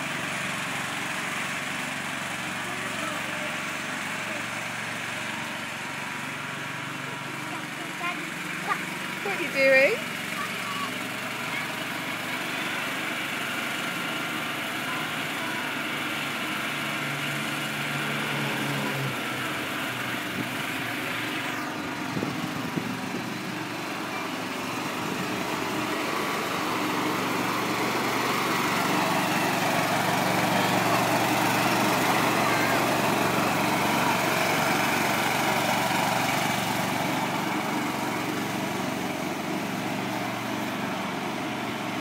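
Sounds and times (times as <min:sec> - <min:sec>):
lawnmower engine running: 0:00.0 - 0:42.0.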